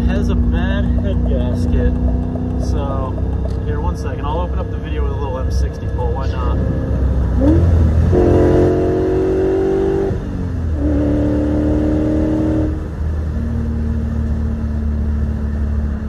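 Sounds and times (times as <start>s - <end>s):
car engine under full throttle: 0.0s - 16.0s.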